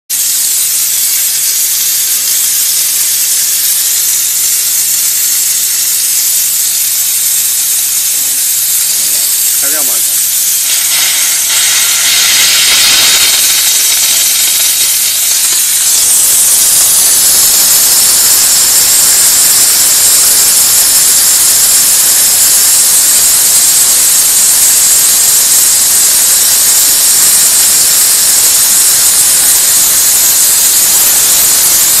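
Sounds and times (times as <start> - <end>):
steam hissing from spray guns: 0.1 - 32.0.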